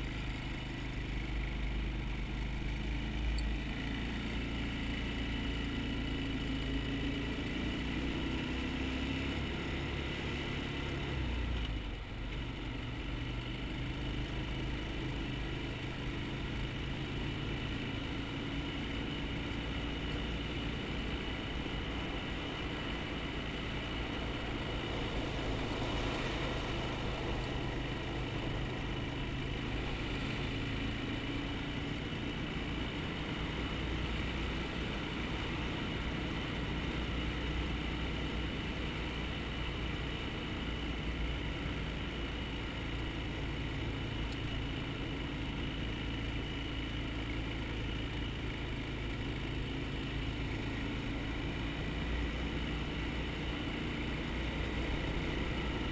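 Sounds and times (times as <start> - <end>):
quad engine running: 0.0 - 55.9.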